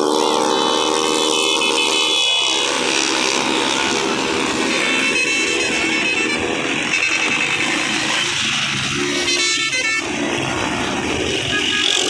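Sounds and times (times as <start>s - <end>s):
horn toot: 0.0s - 10.4s, 11.0s - 12.0s
motorcycle engines: 0.0s - 12.0s.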